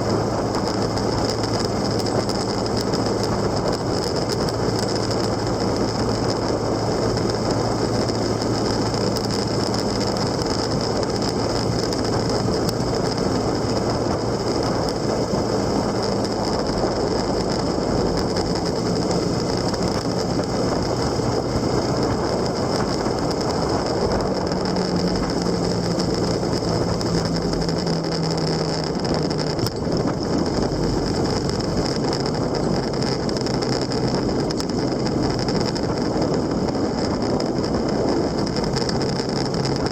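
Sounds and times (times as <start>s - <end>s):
motorcycle engine revving: 0.0s - 39.9s
road noise: 0.0s - 39.9s
wind noise: 0.0s - 39.9s.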